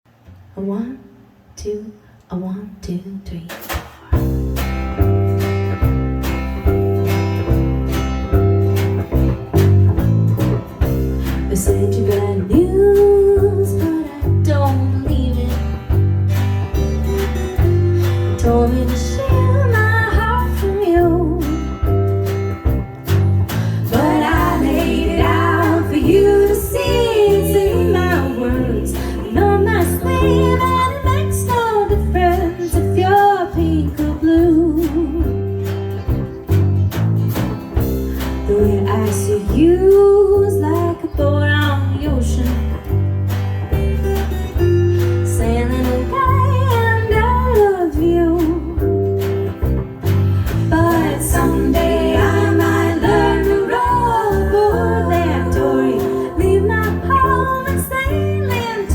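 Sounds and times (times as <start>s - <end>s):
strummed guitar: 3.7s - 58.9s
low bass notes: 4.2s - 58.9s.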